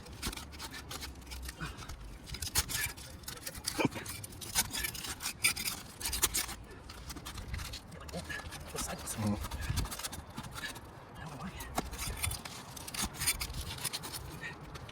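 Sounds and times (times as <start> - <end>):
tool scraping under shingles: 0.0 - 14.9.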